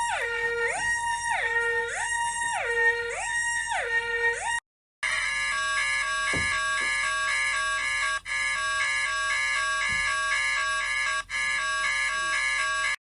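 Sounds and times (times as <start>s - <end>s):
warbling emergency alarm tone: 0.0s - 13.0s.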